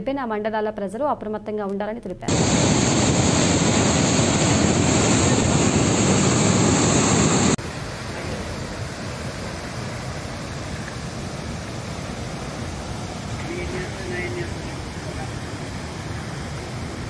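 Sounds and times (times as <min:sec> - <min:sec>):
river rushing: 0:02.3 - 0:17.0
water rushing through spillway: 0:02.3 - 0:17.0.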